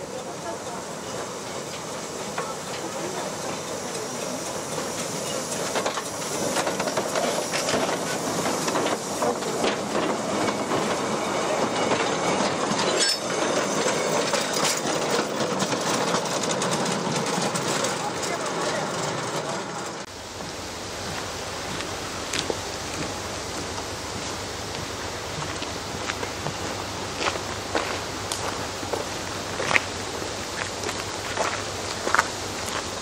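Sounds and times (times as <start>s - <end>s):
train wheels clicking over rails: 0.0s - 33.0s.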